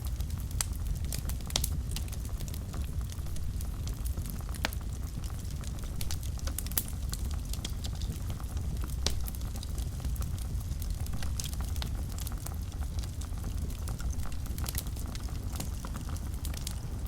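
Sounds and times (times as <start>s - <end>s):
low rumble of flames: 0.0s - 17.0s
wood fire crackles and pops: 0.0s - 17.0s.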